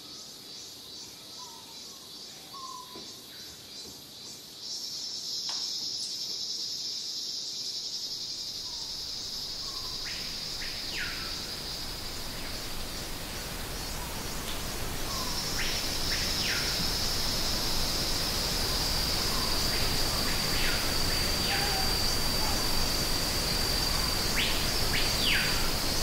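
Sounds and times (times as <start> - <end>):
high-pitched insect drone: 5.0 - 26.0.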